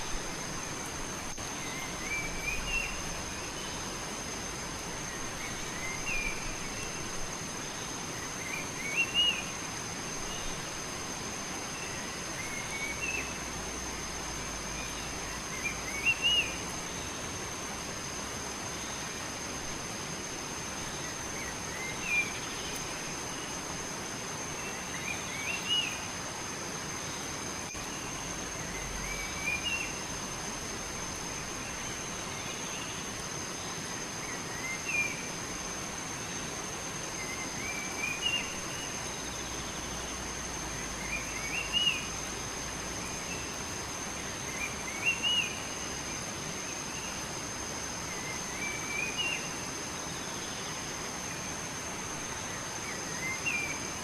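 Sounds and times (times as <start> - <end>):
songbird chirping: 0.0 - 10.8, 11.4 - 17.4, 26.9 - 54.0
flowing water hiss: 0.0 - 54.0.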